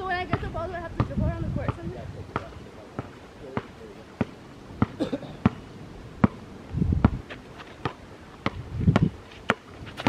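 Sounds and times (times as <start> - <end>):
basketball bouncing on hard court: 0.3 - 5.6, 7.0 - 10.0.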